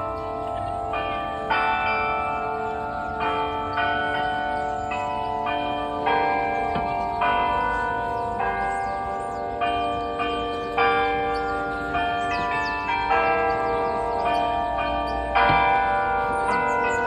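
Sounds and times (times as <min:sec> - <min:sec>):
musical clock bells playing: 0:00.0 - 0:17.0.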